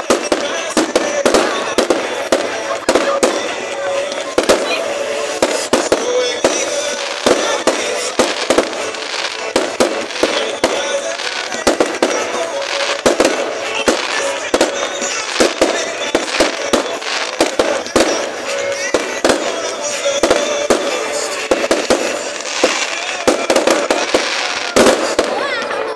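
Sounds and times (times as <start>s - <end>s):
fireworks bangs and crackles: 0.0s - 25.9s
music playing: 0.0s - 25.9s.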